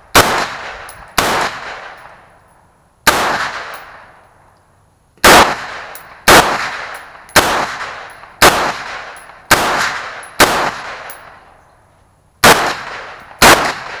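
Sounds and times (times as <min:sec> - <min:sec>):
rifle shots with echo: 0:00.0 - 0:02.3, 0:03.0 - 0:04.2, 0:05.2 - 0:11.6, 0:12.4 - 0:14.0.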